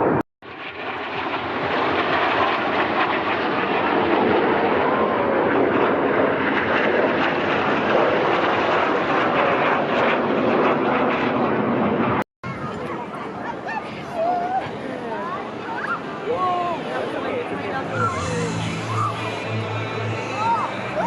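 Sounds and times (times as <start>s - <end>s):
jets flying past: 0.0s - 21.0s.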